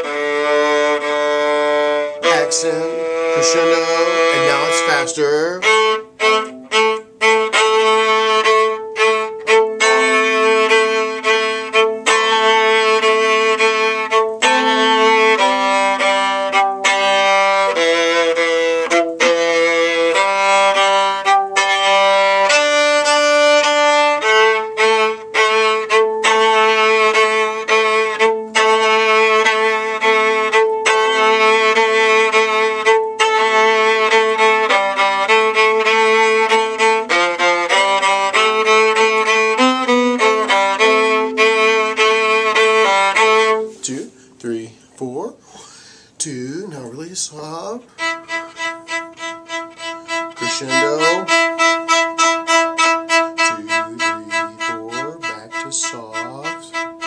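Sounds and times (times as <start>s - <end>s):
solo viola bowing fast notes: 0.0s - 44.2s, 46.3s - 57.0s.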